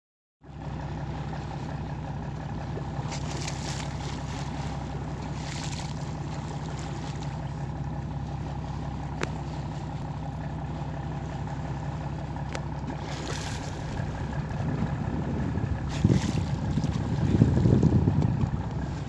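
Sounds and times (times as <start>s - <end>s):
boat engine droning: 0.4s - 19.0s.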